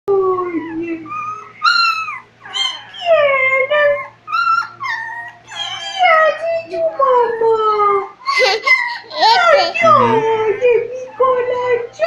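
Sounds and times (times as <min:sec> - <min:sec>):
dog whining and yowling: 0:00.4 - 0:10.3.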